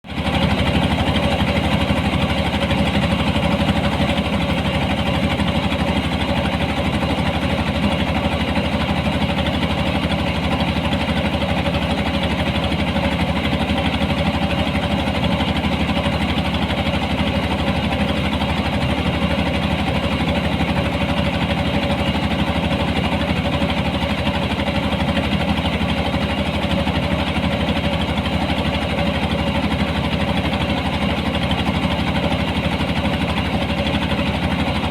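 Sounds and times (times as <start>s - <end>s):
harvester engine running: 0.1s - 34.9s.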